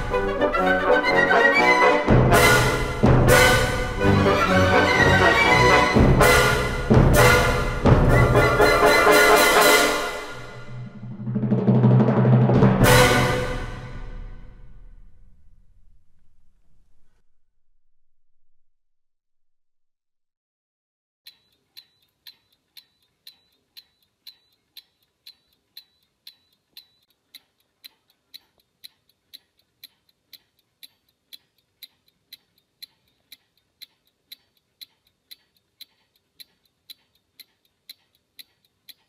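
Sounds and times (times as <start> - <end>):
chronometer ticking: 0.0 - 11.3, 12.6 - 16.2, 21.3 - 39.0.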